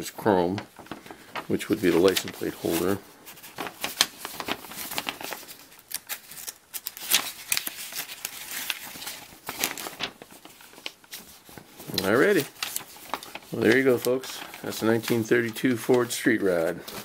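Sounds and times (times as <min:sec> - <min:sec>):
paper rustling and crinkling: 0:00.2 - 0:17.0.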